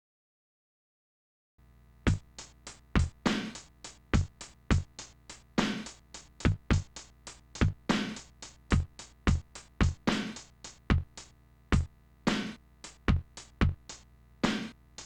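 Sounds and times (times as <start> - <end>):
sampled drum beat: 2.0 - 15.0.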